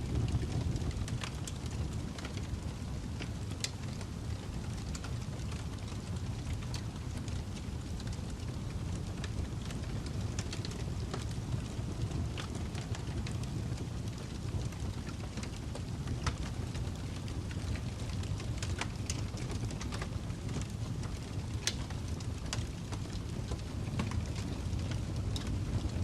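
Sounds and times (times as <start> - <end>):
wood fire crackling: 0.0 - 26.0
fire popping: 0.1 - 26.0.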